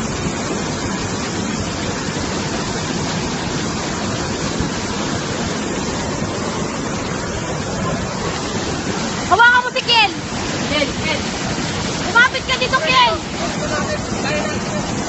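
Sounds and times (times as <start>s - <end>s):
floodwater rushing over rocks: 0.0s - 15.0s.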